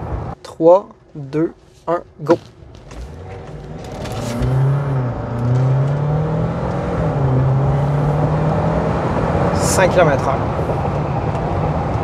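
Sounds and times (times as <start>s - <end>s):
car engine accelerating: 2.2s - 12.0s.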